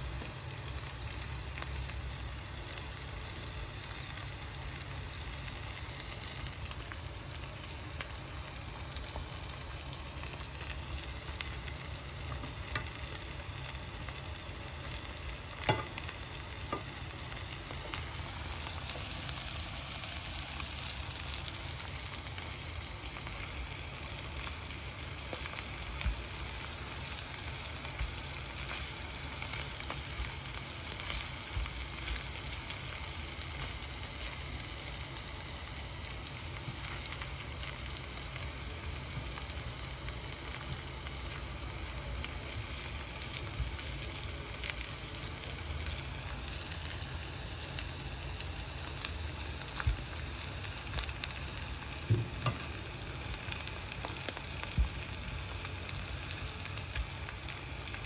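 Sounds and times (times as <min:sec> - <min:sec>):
prawns sizzling in a pan: 0:00.0 - 0:58.0.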